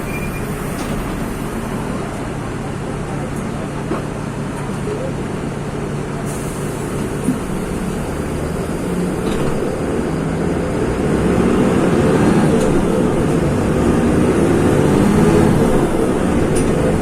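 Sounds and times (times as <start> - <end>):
diesel bus engine humming: 0.0 - 17.0.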